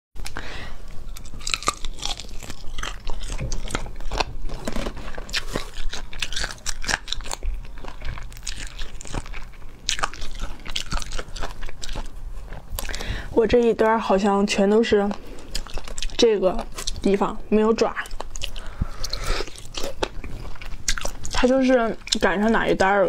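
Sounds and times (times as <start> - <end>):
crunchy chewing: 0.2 - 13.3, 14.1 - 23.0.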